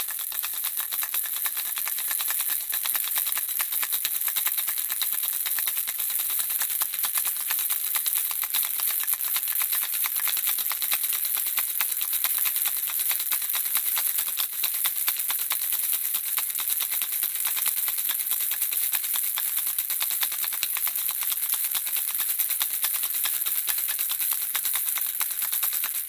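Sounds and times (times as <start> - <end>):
baby rattle shaken: 0.0 - 26.0.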